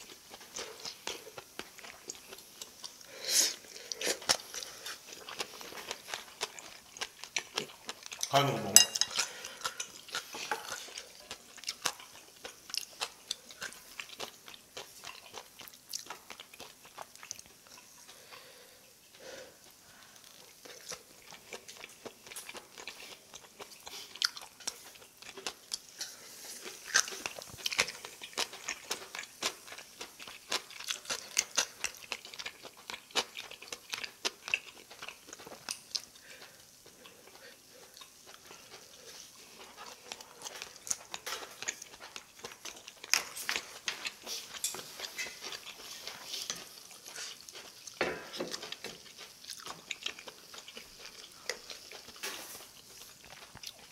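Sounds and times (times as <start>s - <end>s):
close chewing with wet mouth clicks: 0.0s - 18.5s, 19.1s - 53.9s.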